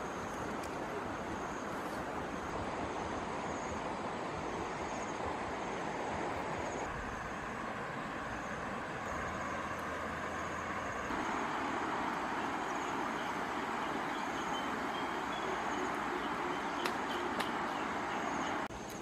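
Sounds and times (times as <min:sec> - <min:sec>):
rushing outdoor background noise: 0:00.0 - 0:19.0.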